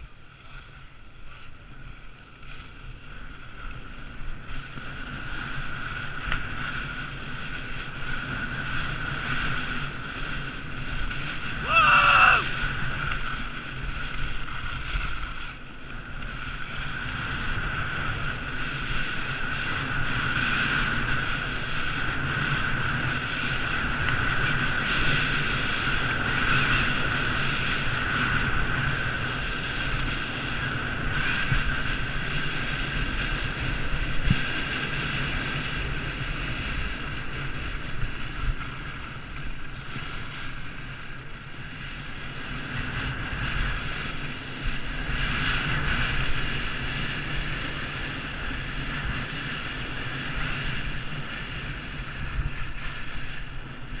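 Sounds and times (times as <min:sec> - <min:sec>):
skis scraping on snow: 0:00.0 - 0:54.0
wind on microphone: 0:00.0 - 0:54.0.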